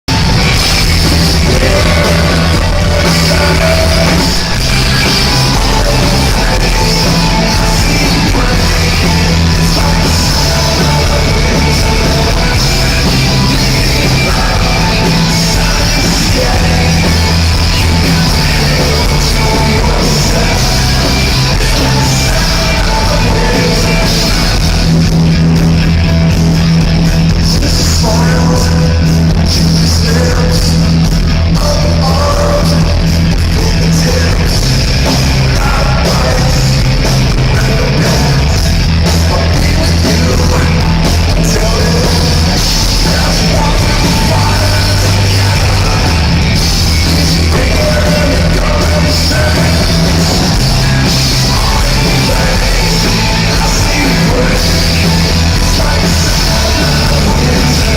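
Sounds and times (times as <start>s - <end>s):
bass guitar: 0.0s - 57.9s
drums: 0.0s - 57.9s
electric guitars: 0.0s - 57.9s
person singing: 0.1s - 25.2s, 27.3s - 57.9s.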